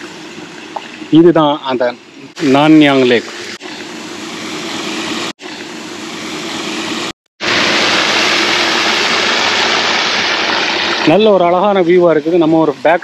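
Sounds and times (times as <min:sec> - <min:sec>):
fountain water splashing: 0:00.0 - 0:06.0, 0:07.4 - 0:13.0.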